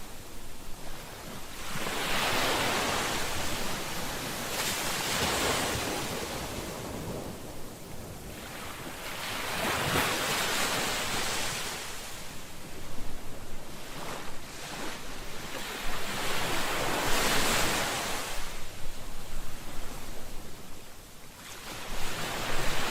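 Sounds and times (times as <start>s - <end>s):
ocean waves breaking on shore: 0.0s - 22.9s
wind on microphone: 0.0s - 22.9s.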